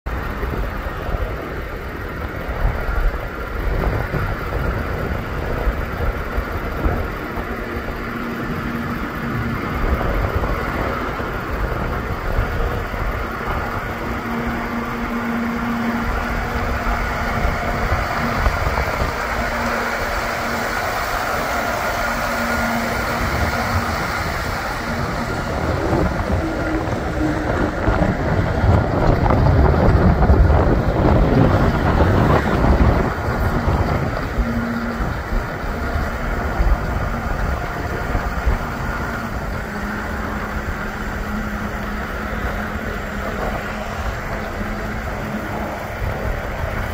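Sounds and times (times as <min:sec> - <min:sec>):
tractor diesel engine running: 0:00.0 - 0:46.9
low hum: 0:00.1 - 0:46.9.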